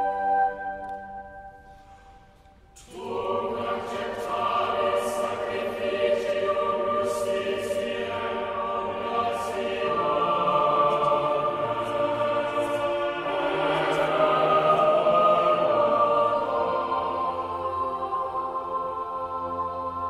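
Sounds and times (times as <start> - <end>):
choir singing sustained chords: 0.0 - 20.0.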